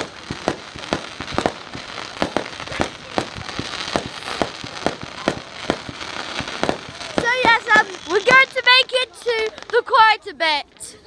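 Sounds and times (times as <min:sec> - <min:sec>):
crackling hiss: 0:00.0 - 0:11.0
fireworks banging: 0:00.0 - 0:11.0.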